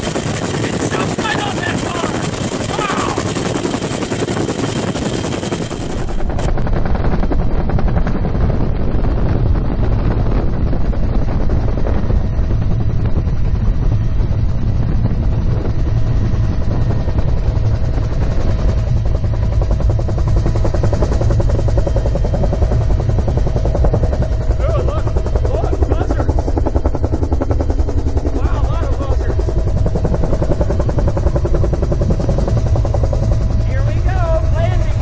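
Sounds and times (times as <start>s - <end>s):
helicopter engine: 0.0s - 35.0s
helicopter rotor beating: 0.0s - 35.0s
wind rushing: 0.0s - 35.0s.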